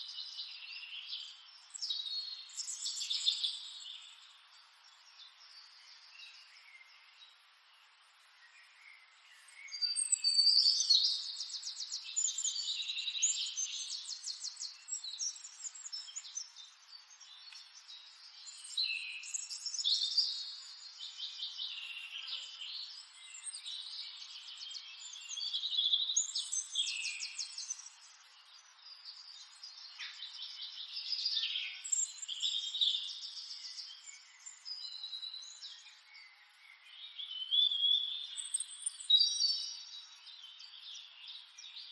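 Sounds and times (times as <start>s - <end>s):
songbirds trilling and chirping: 0.0s - 41.9s.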